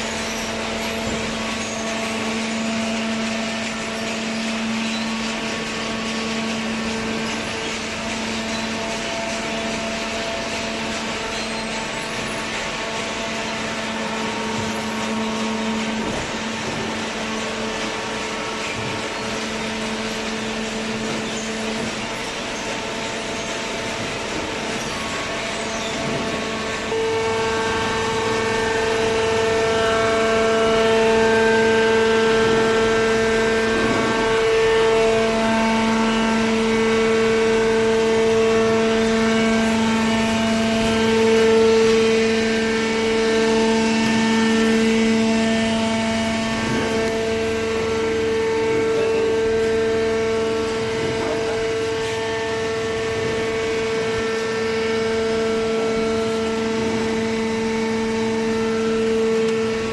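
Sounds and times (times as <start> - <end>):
hydraulic pump motor humming: 0.0 - 59.9.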